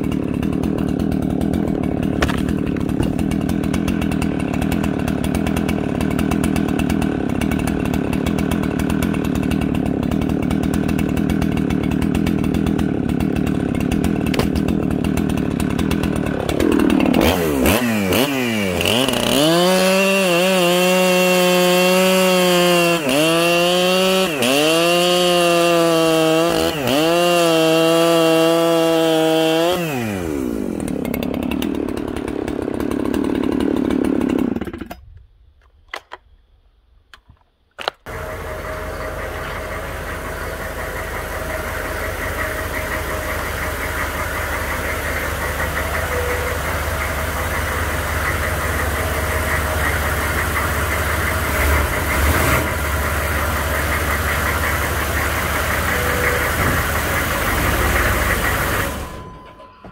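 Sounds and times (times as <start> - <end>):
chainsaw idling and revving: 0.0 - 35.1, 38.0 - 59.5.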